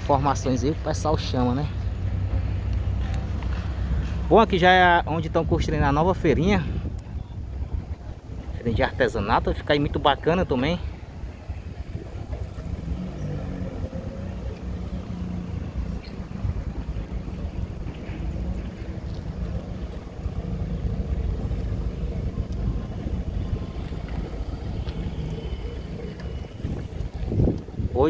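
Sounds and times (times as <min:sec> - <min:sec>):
passing road traffic hum: 0:00.0 - 0:28.0
wind rumbling on microphone: 0:00.0 - 0:28.0.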